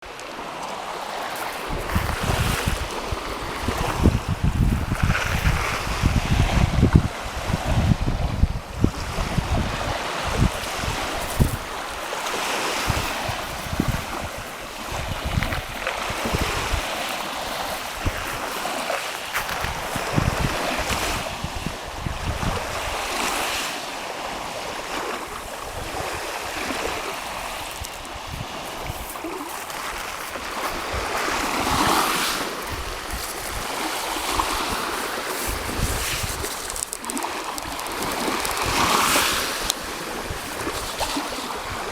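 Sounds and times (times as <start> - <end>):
sea waves washing: 0.0 - 41.9
wind buffeting microphone: 1.3 - 23.6, 24.3 - 41.9.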